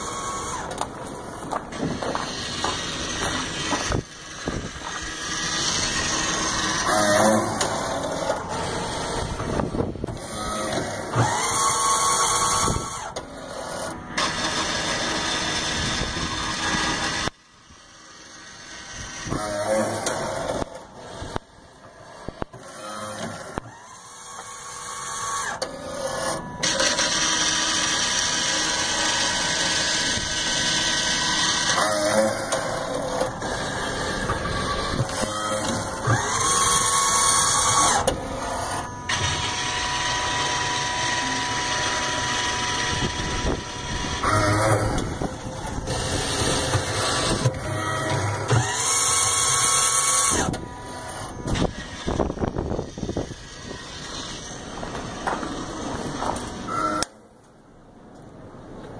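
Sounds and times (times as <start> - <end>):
gear motors whirring: 0.0 - 57.3.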